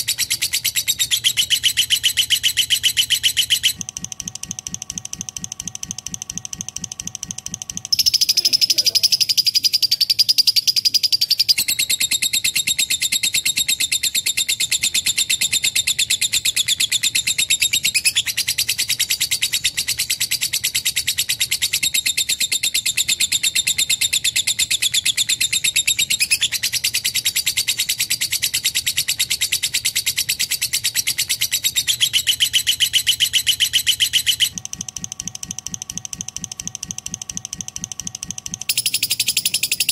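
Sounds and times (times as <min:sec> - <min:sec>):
bird chattering trill: 0:00.0 - 0:04.0, 0:04.6 - 0:39.9.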